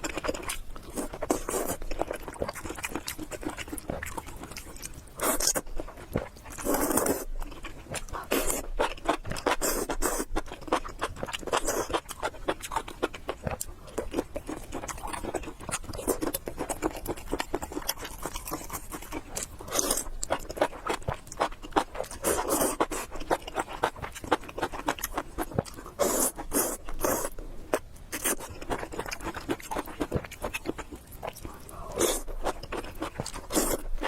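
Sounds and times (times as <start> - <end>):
person chewing noodles: 0.0 - 34.0.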